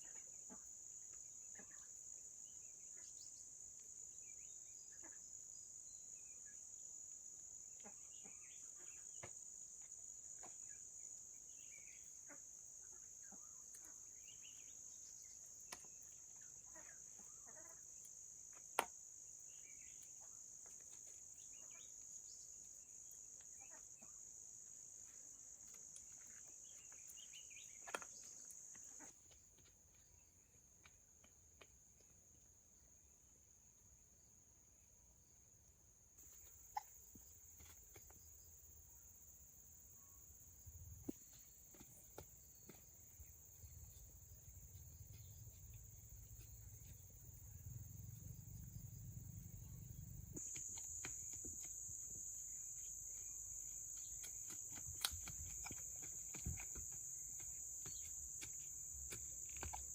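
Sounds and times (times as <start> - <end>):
high-pitched insect chorus: 0.0 - 30.4, 36.2 - 59.9.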